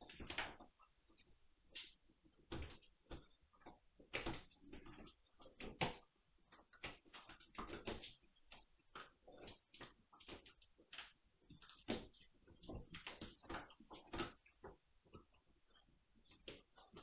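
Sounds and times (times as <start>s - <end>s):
puppy paws tapping on floor: 0.0s - 17.0s.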